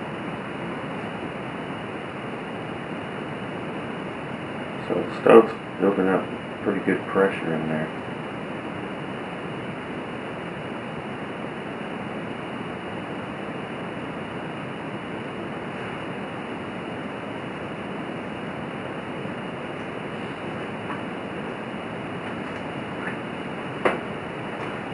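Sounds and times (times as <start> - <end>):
stove flame rushing hiss: 0.0 - 24.9.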